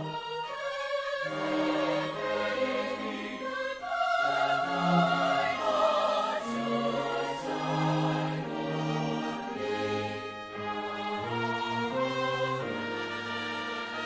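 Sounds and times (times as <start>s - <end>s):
choir singing a hymn: 0.0s - 14.0s
instrumental accompaniment: 0.0s - 14.0s.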